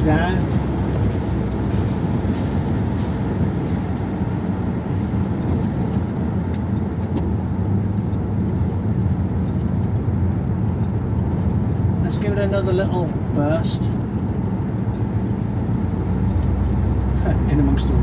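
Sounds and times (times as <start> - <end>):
car engine cruising: 0.0 - 18.0
road noise: 0.0 - 18.0.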